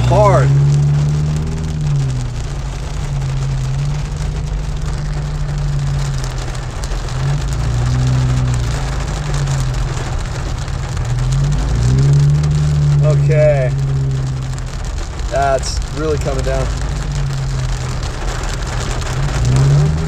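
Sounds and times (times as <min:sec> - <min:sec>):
car low hum: 0:00.0 - 0:20.0
heavy rain drumming on car roof: 0:00.0 - 0:20.0.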